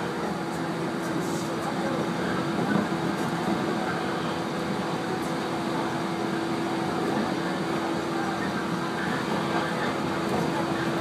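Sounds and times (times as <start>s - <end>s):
train interior running noise: 0.0s - 11.0s.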